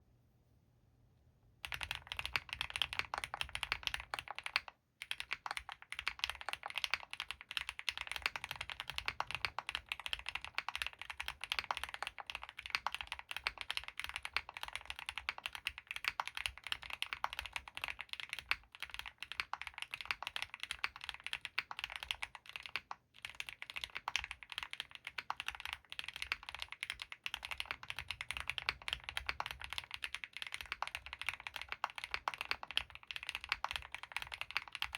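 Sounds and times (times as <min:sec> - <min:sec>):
mechanical keyboard typing: 0:01.6 - 0:34.9.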